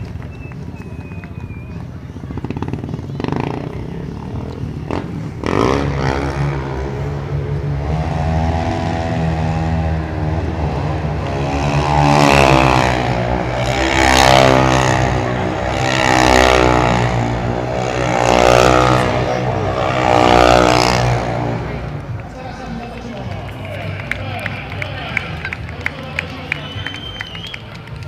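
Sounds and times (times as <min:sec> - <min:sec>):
motorcycle engines revving: 0:00.0 - 0:28.0
steady engine drone: 0:00.0 - 0:28.0.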